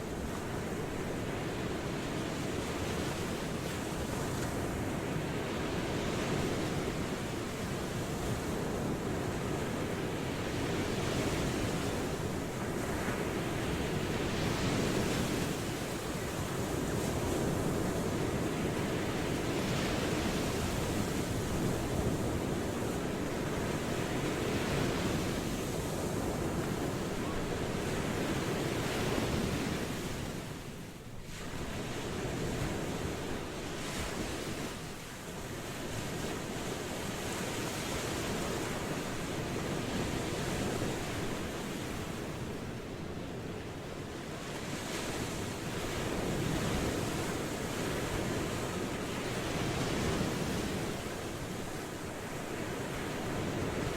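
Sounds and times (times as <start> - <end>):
ocean waves washing ashore: 0.0 - 53.9.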